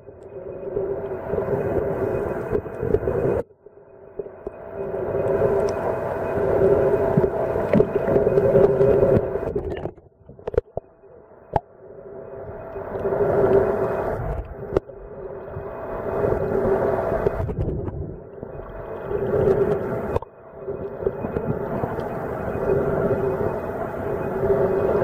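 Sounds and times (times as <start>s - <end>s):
muffled underwater droning hum: 0.0s - 25.0s.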